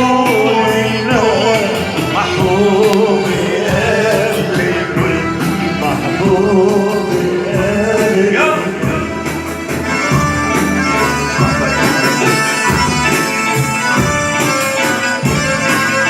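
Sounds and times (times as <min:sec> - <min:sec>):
ornamented sung melody: 0:00.0 - 0:16.0
percussion: 0:00.0 - 0:16.0.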